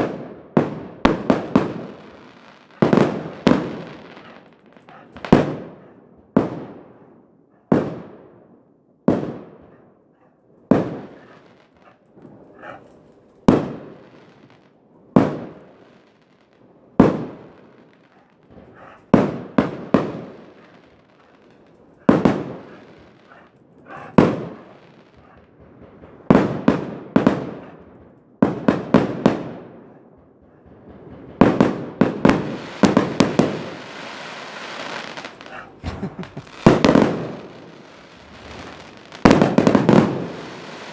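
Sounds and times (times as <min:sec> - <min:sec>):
fireworks banging: 0:00.0 - 0:07.0, 0:10.7 - 0:40.9.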